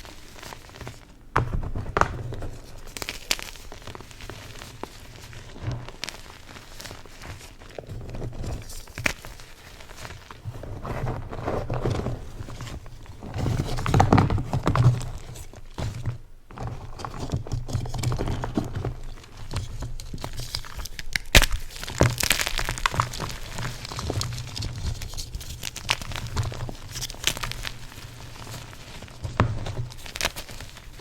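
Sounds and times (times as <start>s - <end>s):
chalk crunching and crumbling: 0.0s - 16.0s, 16.6s - 31.0s.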